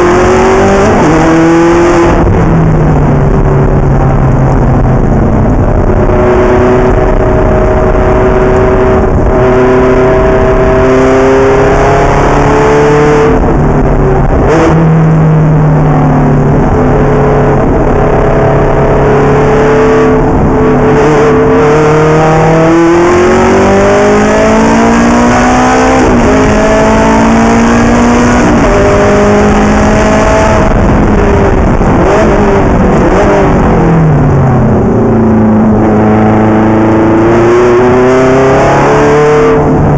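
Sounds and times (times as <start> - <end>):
race car engine revving: 0.0 - 39.9
road and wind noise: 0.0 - 39.9.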